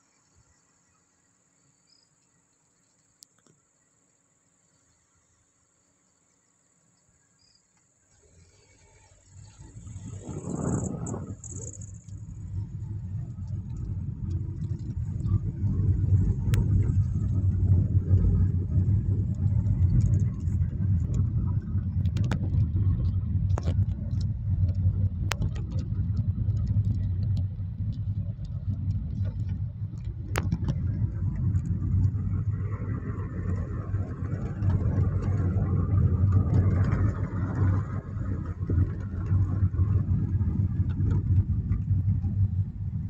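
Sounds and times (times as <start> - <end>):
engine and road rumble: 7.4 - 43.0.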